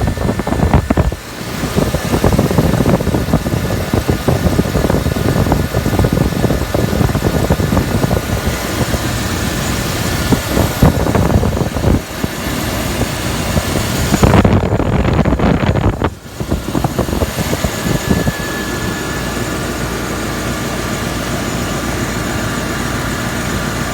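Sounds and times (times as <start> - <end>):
car engine running: 0.0 - 23.9
power steering pump whine: 0.0 - 23.9.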